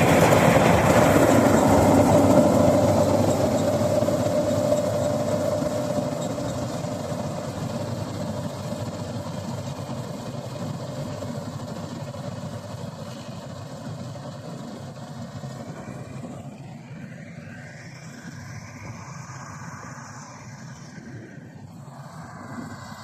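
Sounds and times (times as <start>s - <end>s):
combine harvester engine humming: 0.0s - 23.0s.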